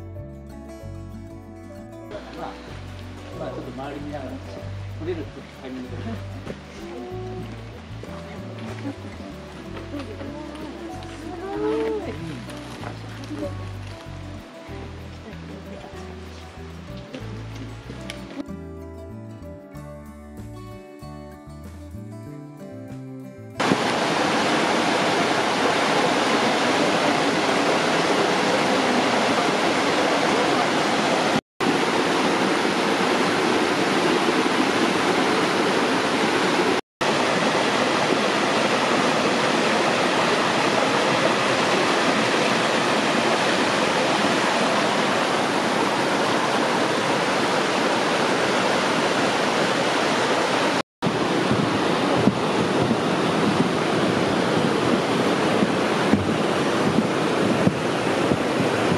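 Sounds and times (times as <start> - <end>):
stream rushing over boulders: 2.1 - 18.4, 23.6 - 58.9.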